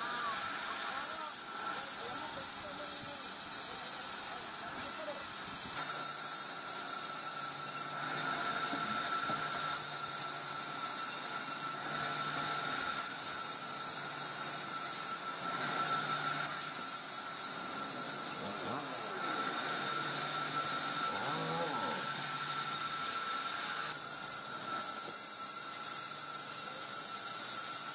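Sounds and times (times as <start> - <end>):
saw cutting through log: 0.0 - 27.9.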